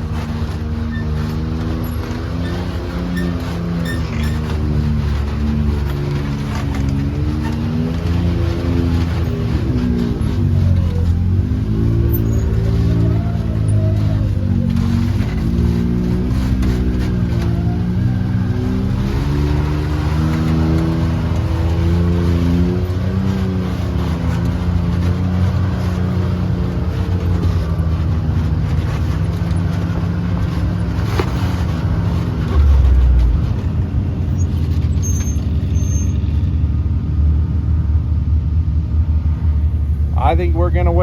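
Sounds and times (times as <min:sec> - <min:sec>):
off-road vehicle engine rumbling: 0:00.0 - 0:41.0.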